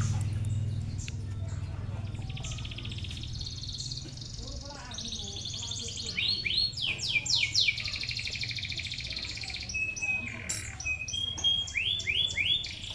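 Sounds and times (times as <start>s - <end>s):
nestlings chirping: 0.0s - 12.9s.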